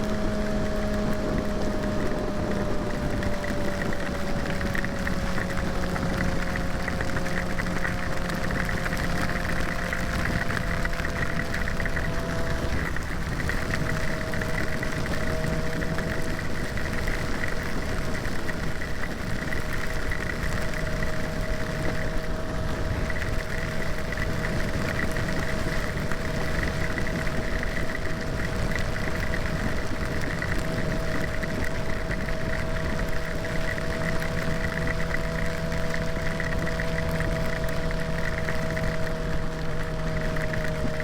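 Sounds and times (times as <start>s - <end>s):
motorcycle engine cruising: 0.0s - 41.0s
wind rushing over microphone: 0.0s - 41.0s.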